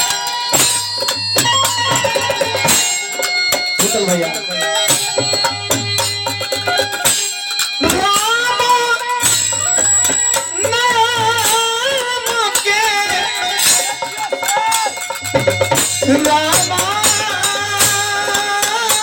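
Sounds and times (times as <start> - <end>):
hand percussion with jingles: 0.0 - 19.0.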